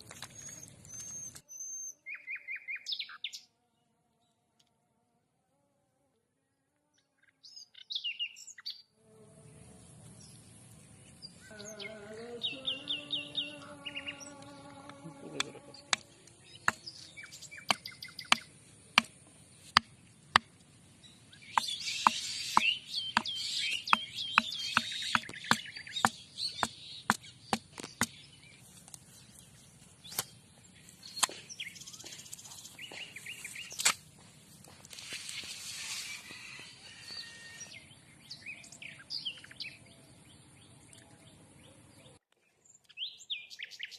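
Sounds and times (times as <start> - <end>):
birds chirping: 0.0 - 3.5, 7.1 - 43.9.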